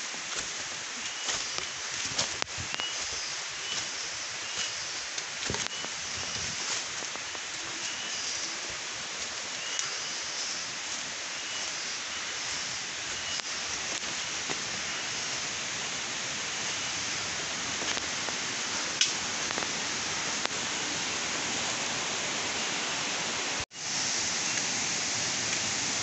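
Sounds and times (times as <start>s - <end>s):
rain on foliage: 0.0s - 26.0s.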